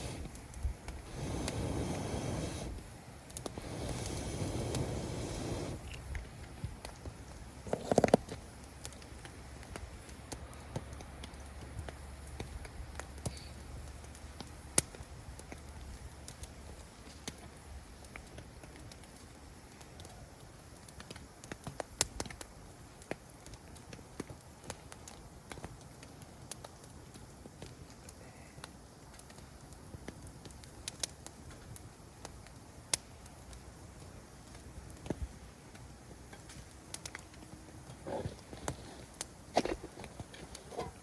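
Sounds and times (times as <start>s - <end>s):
campfire crackling and popping: 0.0s - 41.0s
faint steady hiss: 0.0s - 41.0s.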